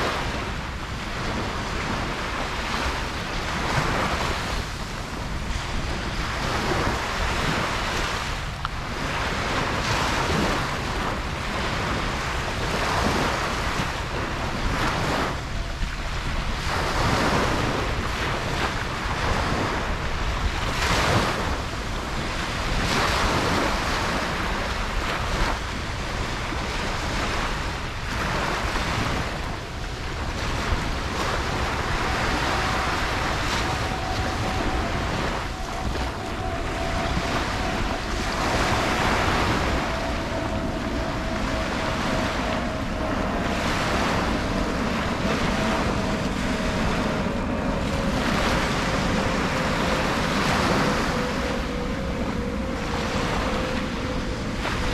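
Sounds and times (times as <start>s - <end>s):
ocean surf breaking on beach: 0.0s - 54.9s.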